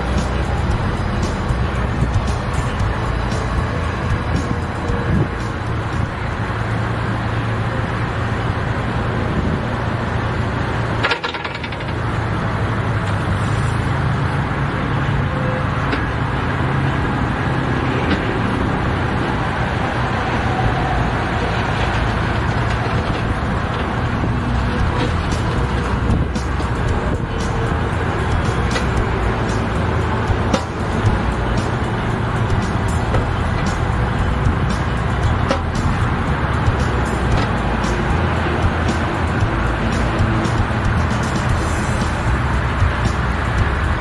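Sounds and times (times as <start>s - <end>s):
diesel engine running: 0.0s - 44.0s
hydraulics moving: 0.0s - 44.0s.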